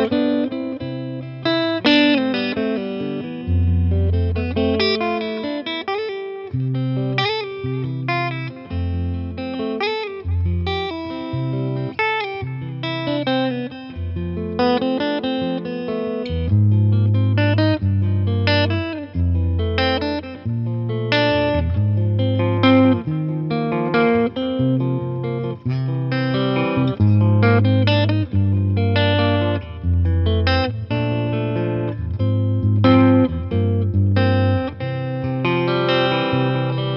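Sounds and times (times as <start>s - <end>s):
clean electric guitar: 0.0s - 36.9s.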